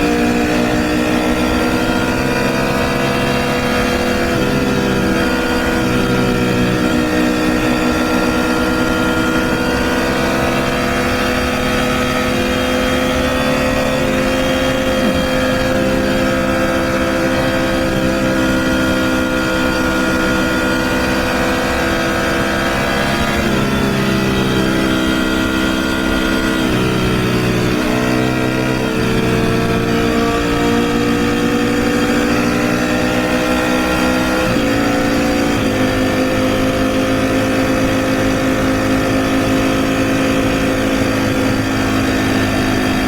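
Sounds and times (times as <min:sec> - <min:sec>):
motorcycle engine cruising: 0:00.0 - 0:43.0
wind and road noise: 0:00.0 - 0:43.0.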